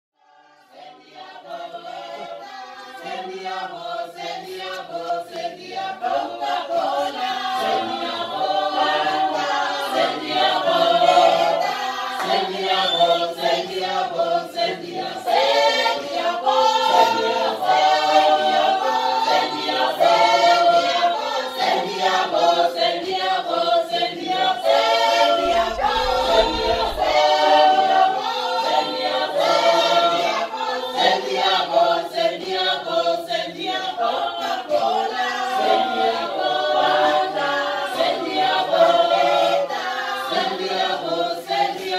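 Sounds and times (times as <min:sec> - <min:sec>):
choir singing: 0:00.2 - 0:41.9.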